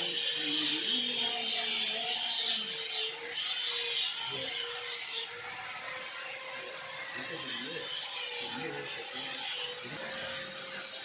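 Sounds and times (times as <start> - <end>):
power tool whining: 0.0 - 11.0.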